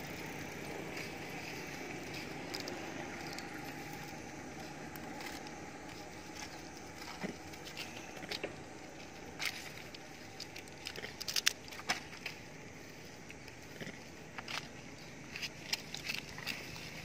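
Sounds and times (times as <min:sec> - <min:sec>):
low background hiss: 0:00.0 - 0:17.0.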